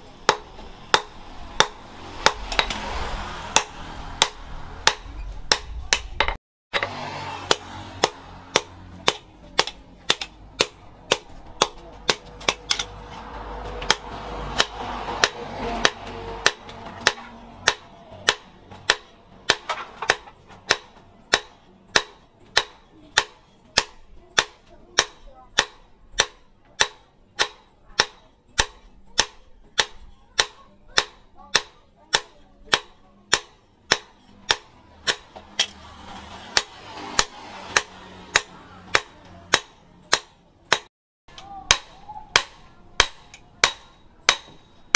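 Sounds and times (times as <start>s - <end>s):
hammer striking hot steel: 0.1s - 44.9s.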